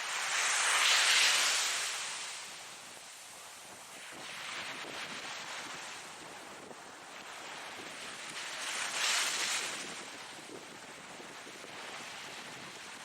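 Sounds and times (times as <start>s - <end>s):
ocean waves breaking on shore: 0.0s - 13.0s.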